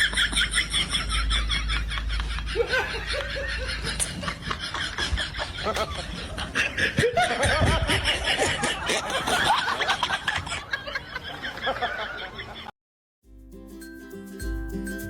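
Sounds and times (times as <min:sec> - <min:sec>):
people laughing: 0:00.0 - 0:12.7.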